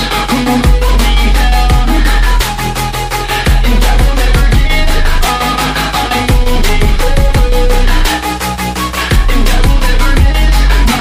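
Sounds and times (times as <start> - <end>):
hip-hop beat with deep kicks: 0.0 - 11.0.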